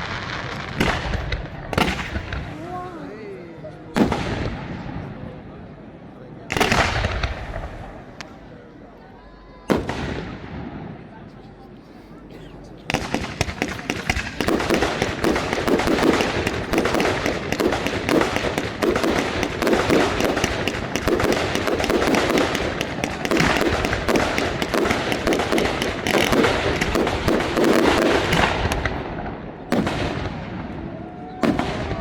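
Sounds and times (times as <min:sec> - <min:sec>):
fireworks crackling and banging: 0:00.0 - 0:05.6, 0:06.4 - 0:08.7, 0:09.7 - 0:11.7, 0:12.4 - 0:32.0.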